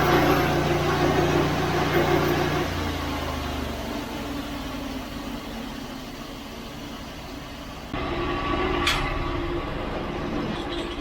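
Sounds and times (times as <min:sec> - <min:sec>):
sawmill gas engine idling: 0:00.0 - 0:11.0.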